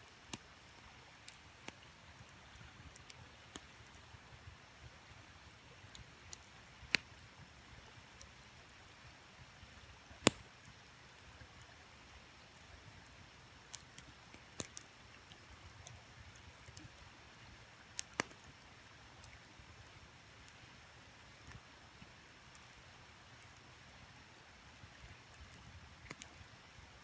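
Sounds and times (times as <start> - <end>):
campfire crackling and popping: 0.1 - 4.4, 5.0 - 27.0.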